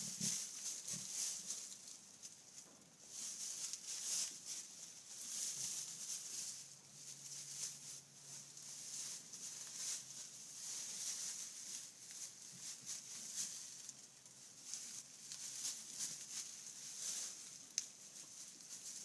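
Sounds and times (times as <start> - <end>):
straw bedding rustling and crackling: 0.0 - 19.0.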